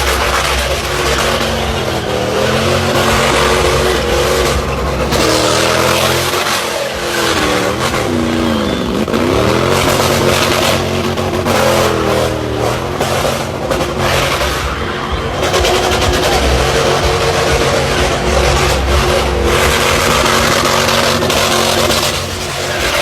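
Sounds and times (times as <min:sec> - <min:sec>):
car engine revving hard: 0:00.0 - 0:23.0
steady rush of noise: 0:00.0 - 0:23.0.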